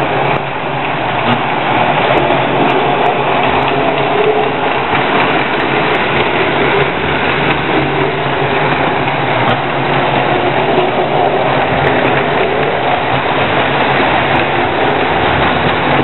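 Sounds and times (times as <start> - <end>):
toy train motors whirring: 0.0 - 16.0
wheels rattling over rails: 0.0 - 16.0.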